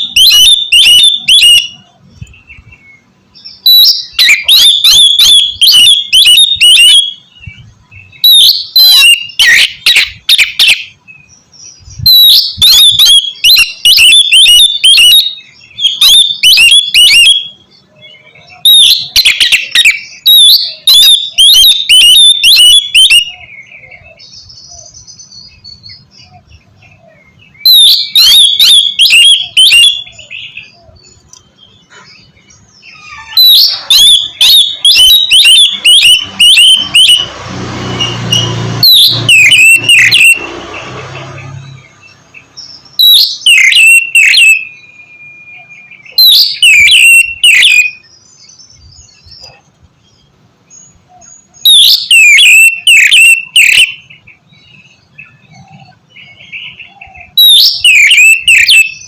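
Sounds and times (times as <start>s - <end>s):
bird singing whistled notes: 0.0s - 40.6s, 41.2s - 59.0s.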